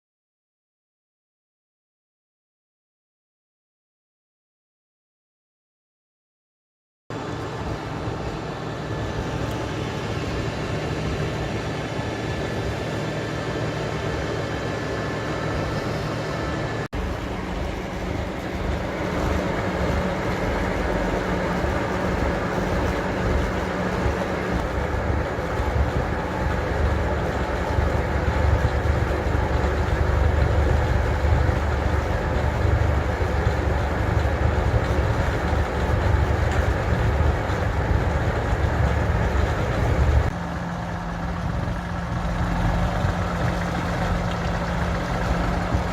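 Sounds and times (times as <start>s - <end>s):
mixer engine droning: 7.1s - 45.9s.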